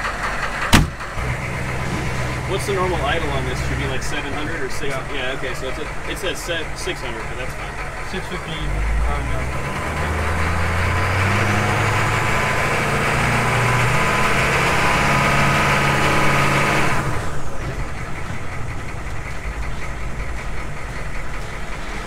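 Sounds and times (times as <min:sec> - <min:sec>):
diesel engine revving and idling: 0:00.0 - 0:22.0.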